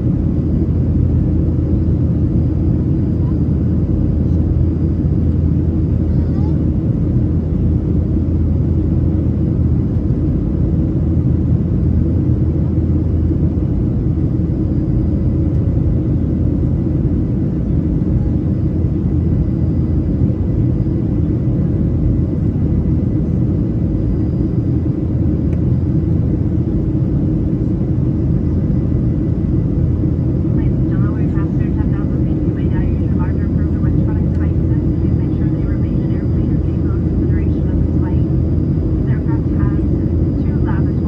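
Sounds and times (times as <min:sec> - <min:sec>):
airflow over fuselage: 0:00.0 - 0:41.0
jet engines droning: 0:00.0 - 0:41.0.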